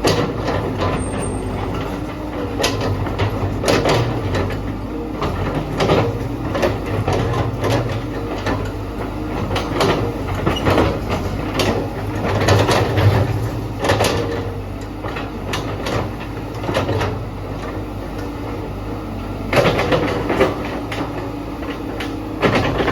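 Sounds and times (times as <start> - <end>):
machine knocks and clanks: 0.0 - 18.6, 19.4 - 22.9
excavator diesel engine humming: 0.0 - 22.9.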